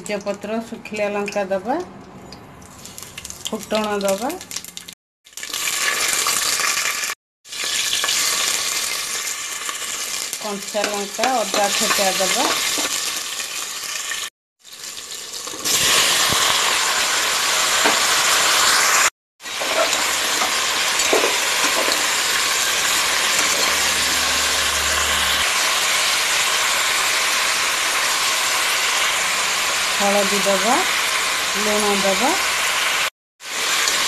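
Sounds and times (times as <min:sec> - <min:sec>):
hot oil sizzling: 0:02.6 - 0:34.0.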